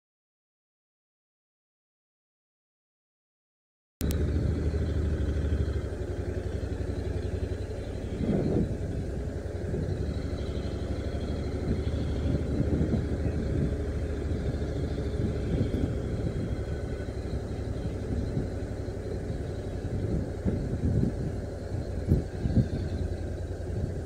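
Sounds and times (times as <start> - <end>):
motorcycle engine running: 4.0 - 24.0
wind rumble on microphone: 4.0 - 24.0.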